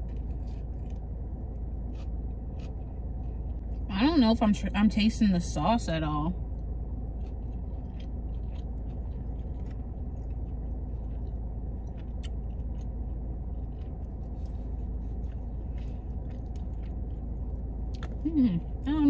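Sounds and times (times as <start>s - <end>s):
person chewing: 0.0s - 3.9s, 6.5s - 18.3s
steady low hum: 0.0s - 19.0s.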